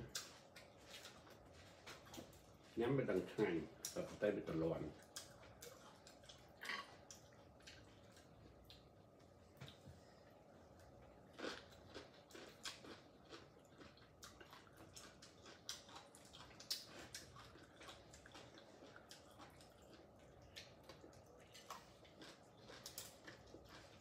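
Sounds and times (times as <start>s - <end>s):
chewing: 0.0s - 2.8s, 4.9s - 10.0s, 10.6s - 24.0s.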